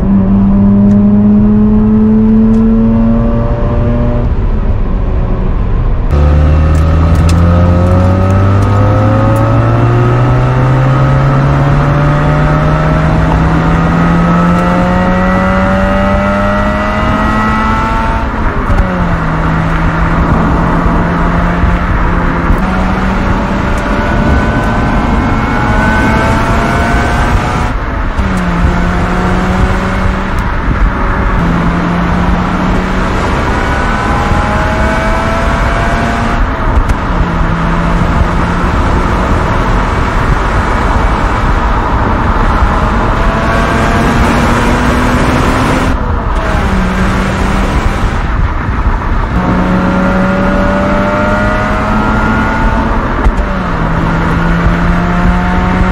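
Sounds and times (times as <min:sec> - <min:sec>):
rotary engine revving hard: 0:00.0 - 0:04.3, 0:06.1 - 0:55.9.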